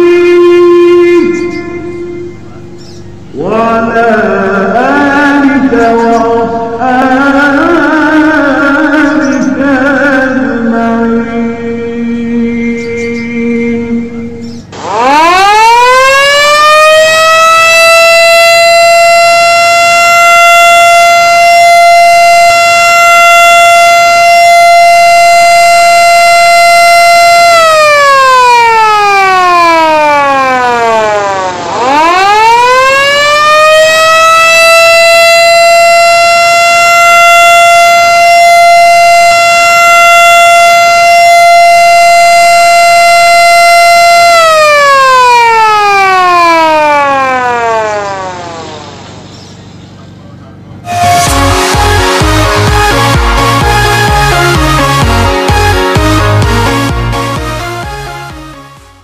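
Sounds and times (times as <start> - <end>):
siren wailing: 0.0 - 49.9, 50.6 - 59.0.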